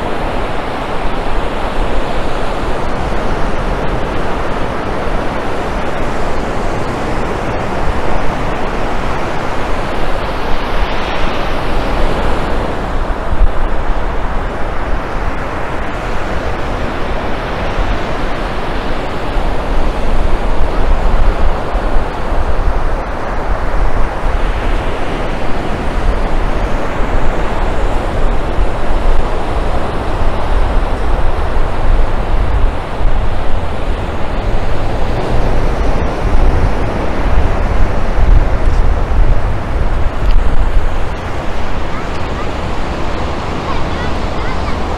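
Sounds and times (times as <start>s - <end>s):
ocean surf on beach: 0.0s - 44.9s
wind buffeting microphone: 0.0s - 44.9s.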